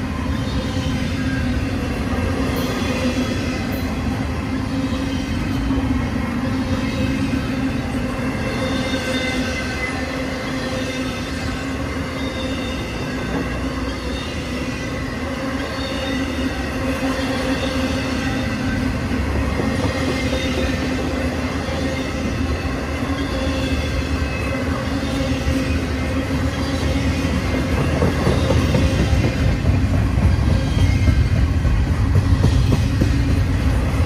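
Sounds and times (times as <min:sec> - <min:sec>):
freight train wheels rumbling on rail: 0:00.0 - 0:34.0
wheels squealing: 0:00.1 - 0:34.0.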